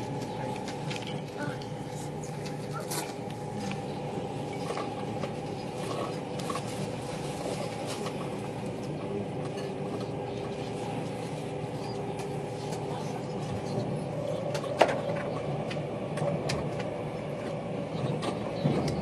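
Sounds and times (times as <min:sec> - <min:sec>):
train running rumble and hiss: 0:00.0 - 0:19.0.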